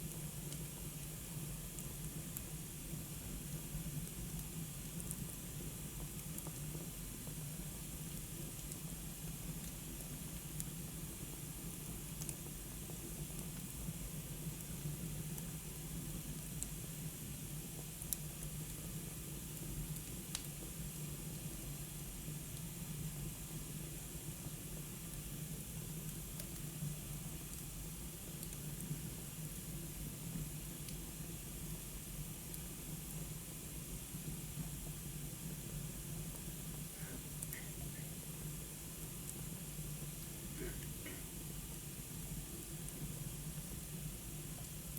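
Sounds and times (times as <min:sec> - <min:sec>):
wood fire hissing: 0:00.0 - 0:44.9.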